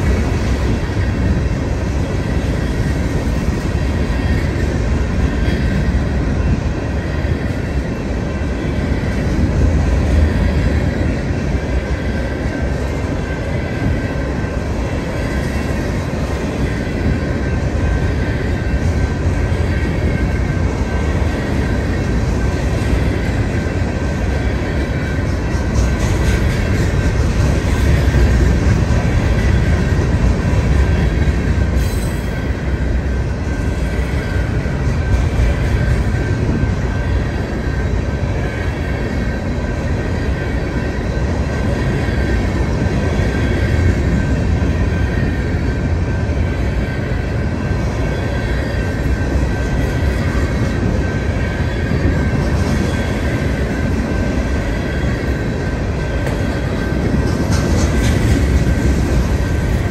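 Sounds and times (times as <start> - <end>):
freight train rumbling and rattling: 0.0 - 59.9.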